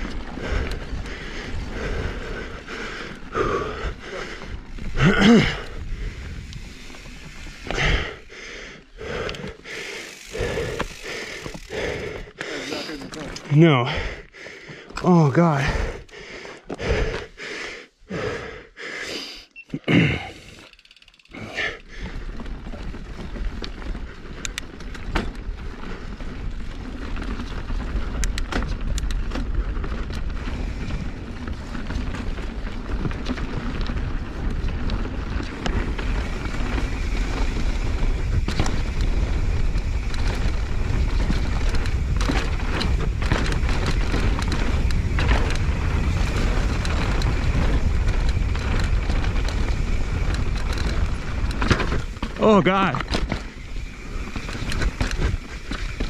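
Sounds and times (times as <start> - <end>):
bike clicks and rattles: 0.0 - 17.4, 19.8 - 56.0
bike tyre noise: 0.0 - 56.0.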